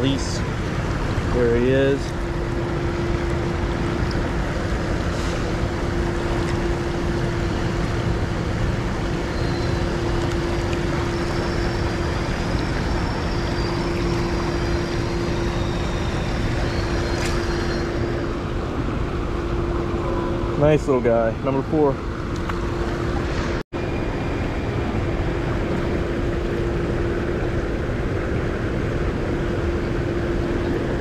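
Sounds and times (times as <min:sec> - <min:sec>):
constant low hum: 0:00.0 - 0:31.0.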